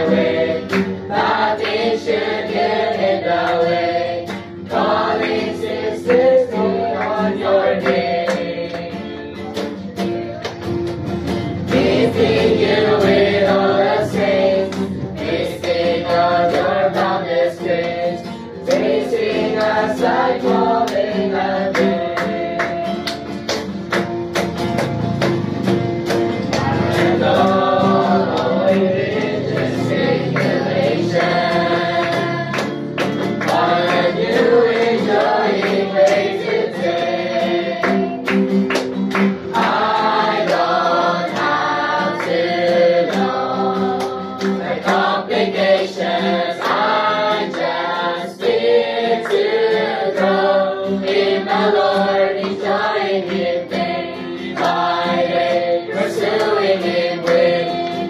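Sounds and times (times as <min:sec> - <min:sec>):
group singing in unison: 0:00.0 - 0:10.4, 0:11.3 - 0:23.8, 0:24.9 - 0:58.0
hand claps: 0:00.0 - 0:58.0
strummed acoustic guitar: 0:00.0 - 0:58.0.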